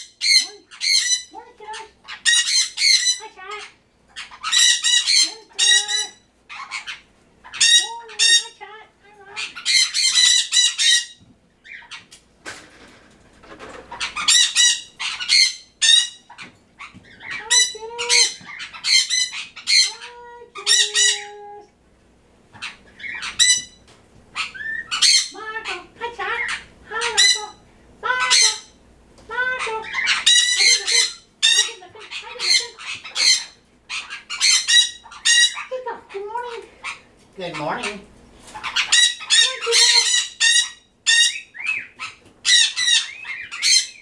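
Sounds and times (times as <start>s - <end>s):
birds squawking: 0.0s - 12.2s, 13.4s - 21.6s, 22.4s - 44.0s.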